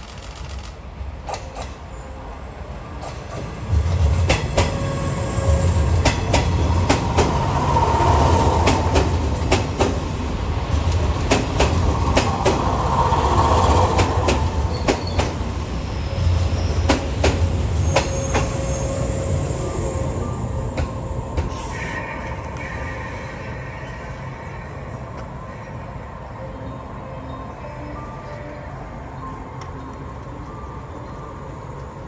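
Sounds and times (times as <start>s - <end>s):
electric train rumbling past: 0.0s - 32.0s.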